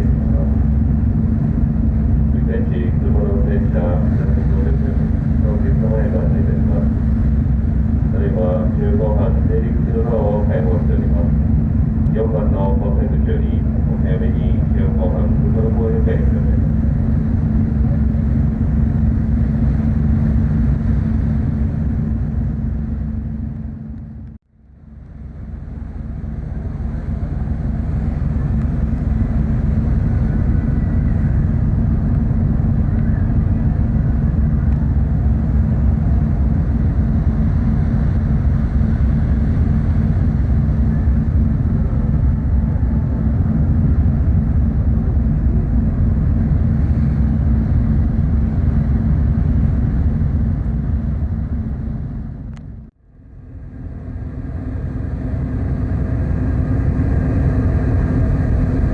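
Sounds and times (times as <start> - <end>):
constant hum: 0.0 - 58.9
ship engines rumbling: 0.0 - 58.9.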